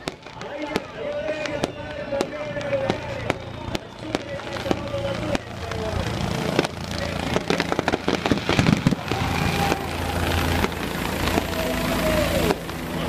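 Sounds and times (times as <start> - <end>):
fireworks popping and crackling: 0.0 - 13.0
helicopter flying overhead: 0.0 - 13.0.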